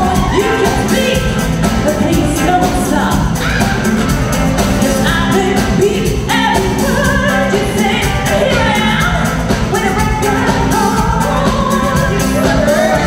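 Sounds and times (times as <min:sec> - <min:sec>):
women singing: 0:00.0 - 0:03.7, 0:04.8 - 0:13.0
drums with steady beat: 0:00.0 - 0:13.0
electric bass: 0:00.0 - 0:13.0.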